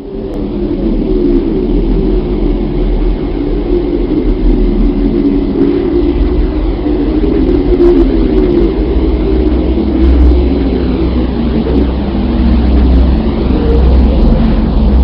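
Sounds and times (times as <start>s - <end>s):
dense low drone: 0.0s - 15.0s.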